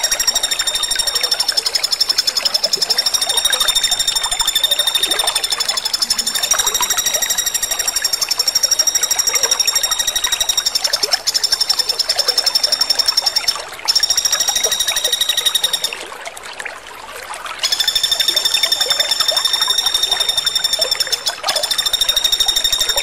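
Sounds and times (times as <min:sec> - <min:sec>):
woodpecker rattling trills: 0:00.0 - 0:16.0, 0:17.6 - 0:23.0.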